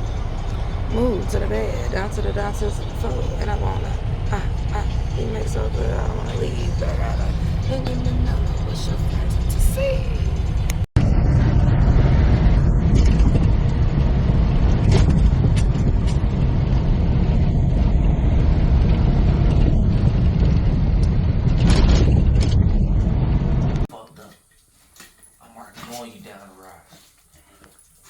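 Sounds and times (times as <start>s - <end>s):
truck engine rumble: 0.0s - 24.1s.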